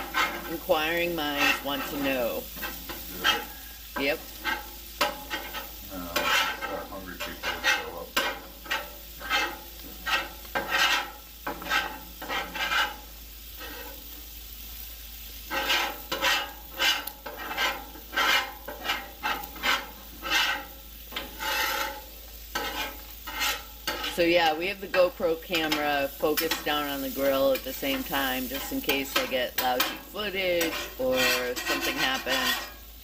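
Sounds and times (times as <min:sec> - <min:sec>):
metal spatulas scraping griddle: 0:00.0 - 0:14.2, 0:15.4 - 0:33.0
food sizzling: 0:00.0 - 0:33.0.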